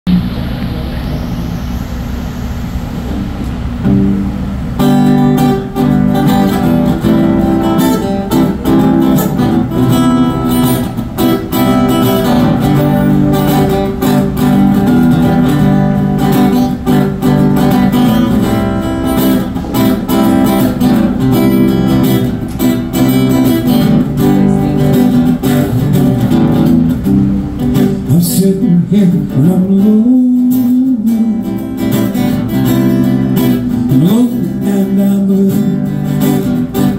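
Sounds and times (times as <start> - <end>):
acoustic guitar blues strumming: 3.7 - 36.9.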